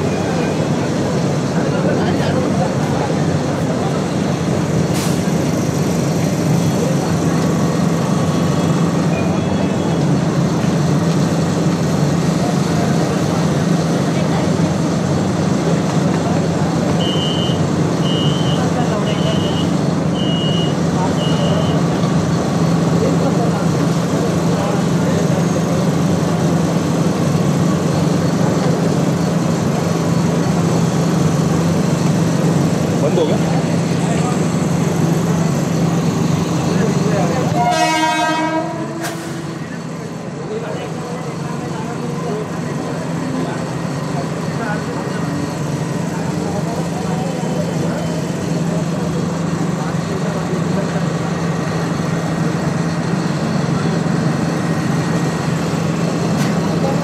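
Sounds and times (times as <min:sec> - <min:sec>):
electric train humming: 0:00.0 - 0:57.0
station noise: 0:00.0 - 0:57.0.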